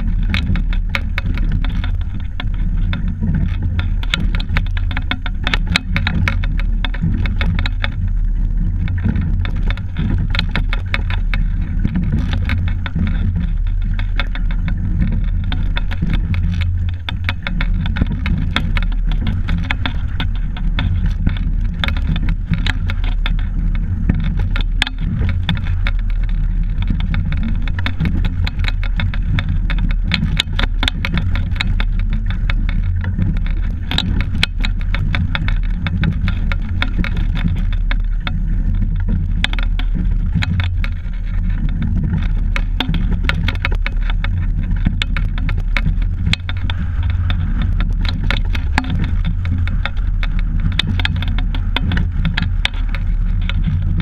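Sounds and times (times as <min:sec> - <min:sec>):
clicks and knocks from oars: 0:00.0 - 0:54.0
wind and water rumble: 0:00.0 - 0:54.0.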